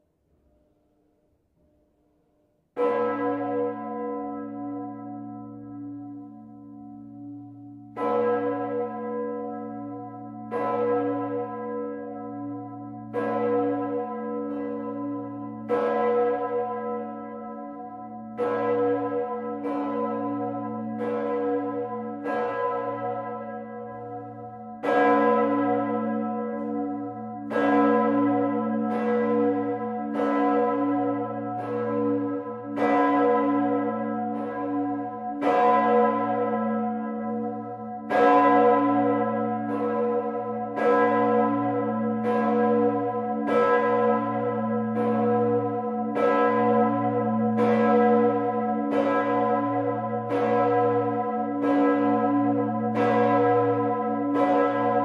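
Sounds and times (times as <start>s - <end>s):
large bronze bell ringing: 2.8s - 55.0s.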